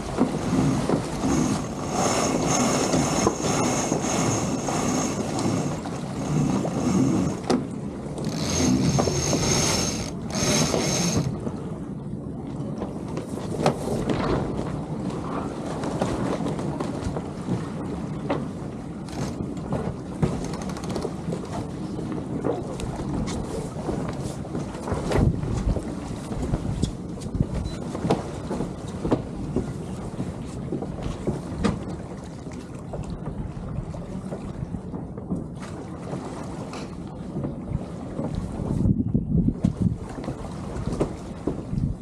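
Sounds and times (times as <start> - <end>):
water rushing along hulls: 0.0 - 42.0
wind on microphone: 0.0 - 42.0.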